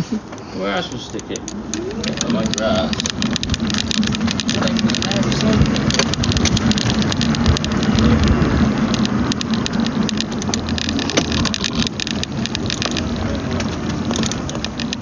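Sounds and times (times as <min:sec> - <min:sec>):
car engine hum: 0:00.0 - 0:15.0
crackling ticks: 0:00.3 - 0:15.0.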